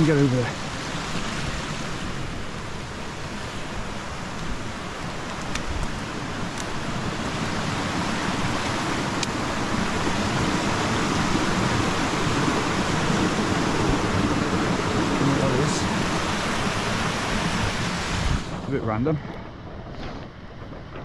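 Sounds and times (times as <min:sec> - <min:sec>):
stream running: 0:00.0 - 0:19.0.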